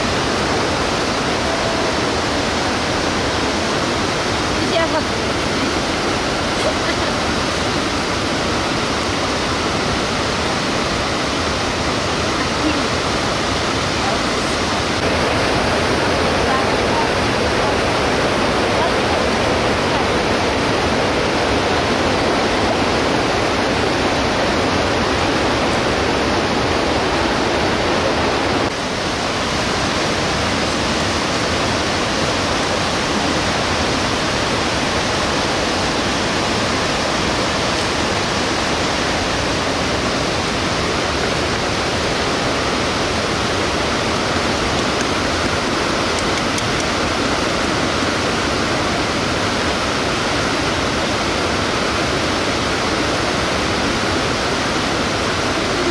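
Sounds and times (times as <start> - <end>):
mountain river rushing: 0.0 - 55.9.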